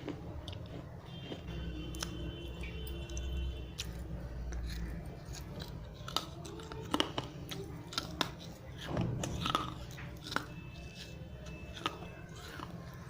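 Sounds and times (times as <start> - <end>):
person chewing clay crunches: 0.0 - 13.0.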